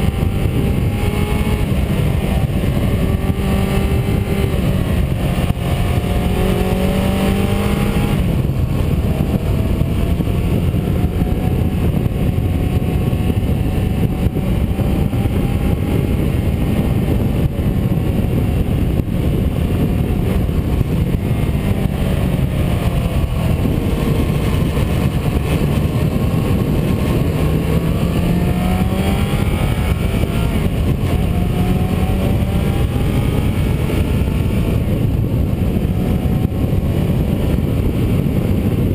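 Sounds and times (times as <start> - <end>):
car engine revving: 0.0 - 38.9
tyre and road noise: 0.0 - 38.9.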